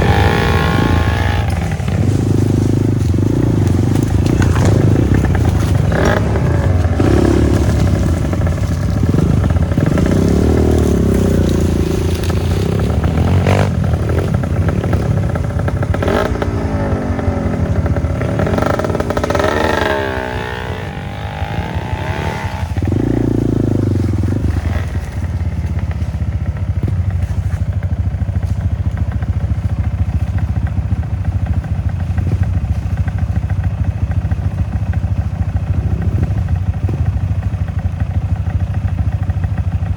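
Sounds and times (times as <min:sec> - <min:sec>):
clattering over terrain: 0:00.0 - 0:39.9
motorcycle engine revving: 0:00.0 - 0:39.9.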